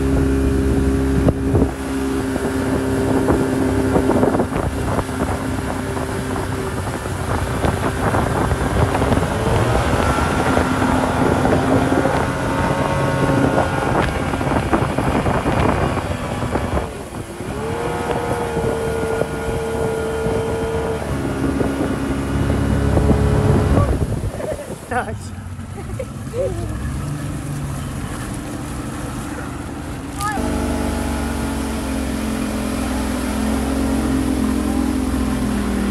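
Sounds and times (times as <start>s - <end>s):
speedboat engine running: 0.0s - 35.9s
wind buffeting microphone: 0.0s - 35.9s.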